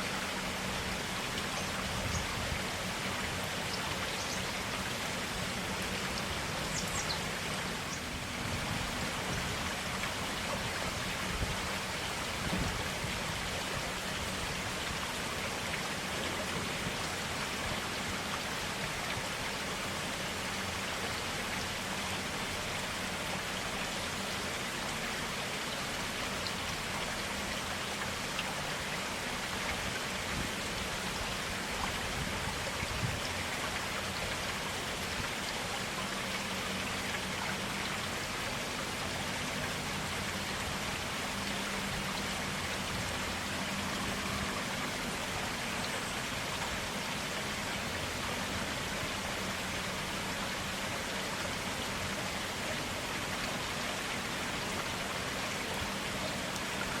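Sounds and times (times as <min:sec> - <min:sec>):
forest stream running: 0:00.0 - 0:57.0.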